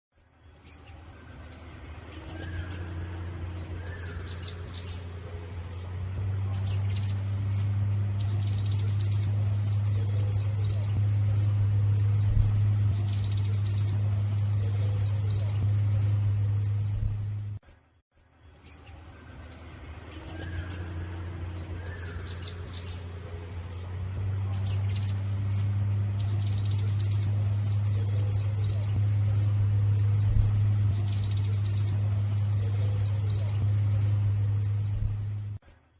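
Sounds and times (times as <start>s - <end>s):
steady low hum: 0.2s - 35.9s
bird singing high chips and trills: 0.4s - 17.6s, 18.4s - 35.6s.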